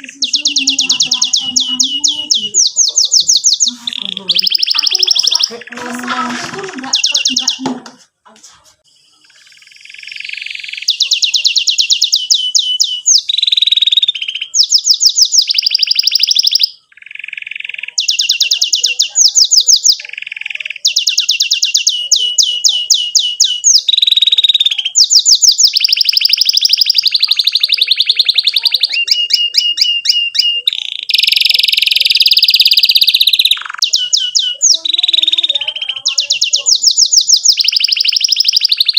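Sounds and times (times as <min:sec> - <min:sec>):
canary singing trilled phrases: 0:00.0 - 0:08.2, 0:08.8 - 0:38.9.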